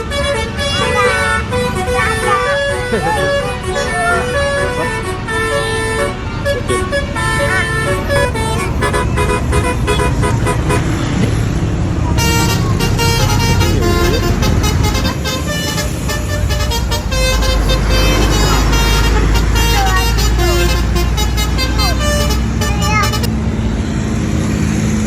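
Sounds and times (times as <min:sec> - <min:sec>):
multi-tone musical bus horns: 0:00.0 - 0:24.0
bus engine rumbling: 0:00.0 - 0:25.0
road traffic: 0:00.0 - 0:25.0.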